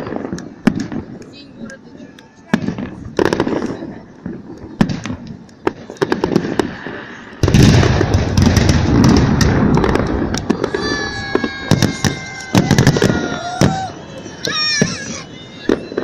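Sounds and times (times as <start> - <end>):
fireworks pops and bangs: 0.0 - 16.0.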